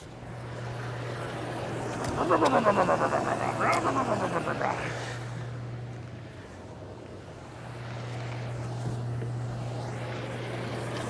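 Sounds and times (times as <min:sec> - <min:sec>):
pump hum: 0:00.0 - 0:11.0.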